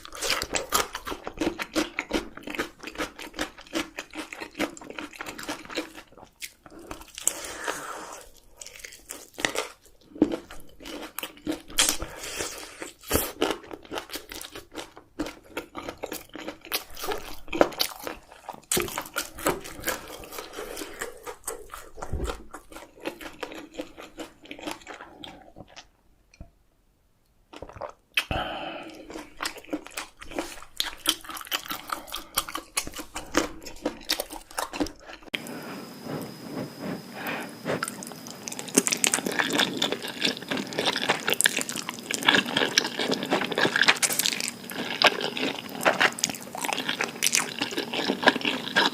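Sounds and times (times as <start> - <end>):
close chewing and crunching: 0.0 - 26.4, 27.5 - 48.9.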